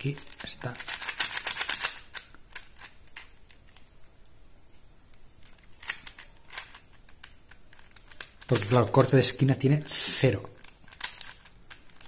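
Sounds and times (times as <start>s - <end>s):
puzzle cube layers clicking: 0.1s - 3.8s, 5.4s - 12.0s.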